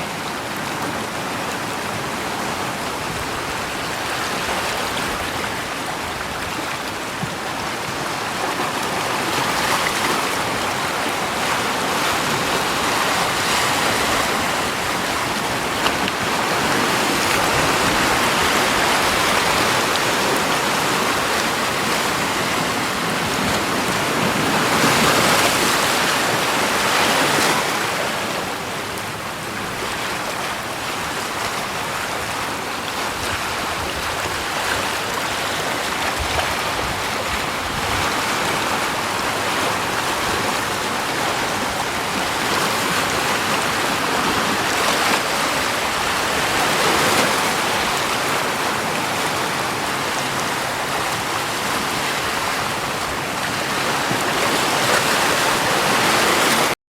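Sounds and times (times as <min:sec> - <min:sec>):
rushing water: 0:00.0 - 0:56.8.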